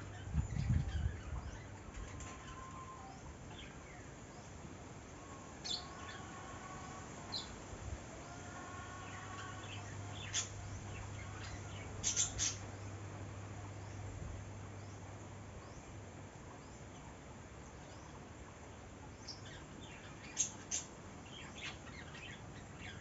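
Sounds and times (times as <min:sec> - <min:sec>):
low steady hum: 0:00.0 - 0:23.0
outdoor ambience: 0:00.0 - 0:23.0
wild birds chirping: 0:00.0 - 0:23.0.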